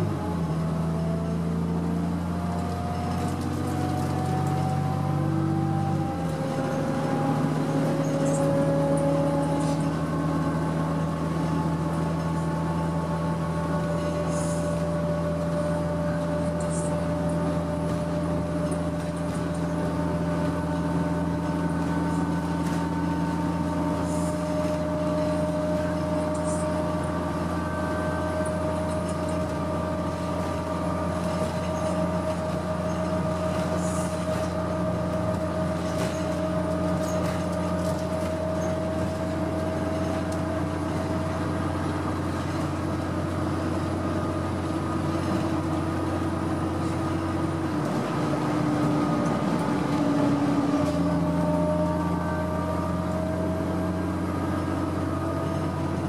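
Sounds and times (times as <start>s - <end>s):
bus diesel engine droning: 0.0s - 56.0s
drivetrain whine: 0.0s - 56.0s.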